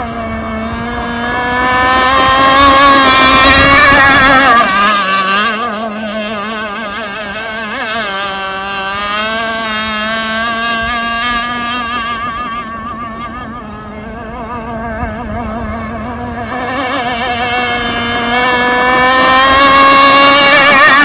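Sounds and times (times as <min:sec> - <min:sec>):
model boat motor racing past: 0:00.0 - 0:21.0.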